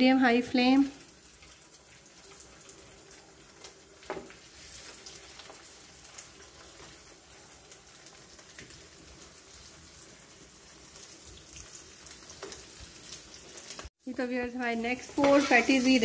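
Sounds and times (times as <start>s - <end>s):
patties sizzling in oil: 0.0s - 16.0s.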